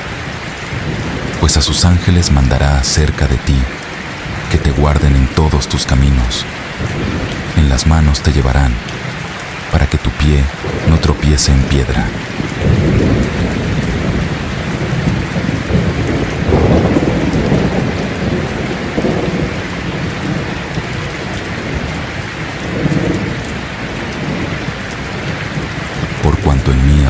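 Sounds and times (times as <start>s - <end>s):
heavy rain: 0.0s - 27.0s
rolling thunder: 0.7s - 4.7s, 6.3s - 9.2s, 10.5s - 26.2s.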